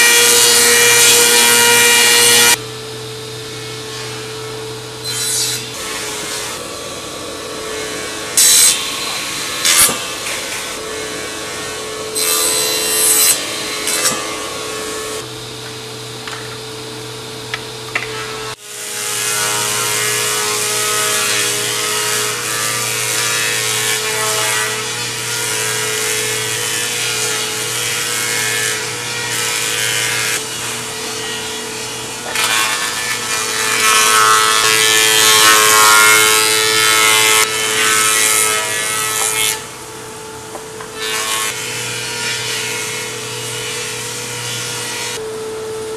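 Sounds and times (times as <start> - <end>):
harsh wood cutting noise: 0.0 - 16.8, 17.6 - 45.9.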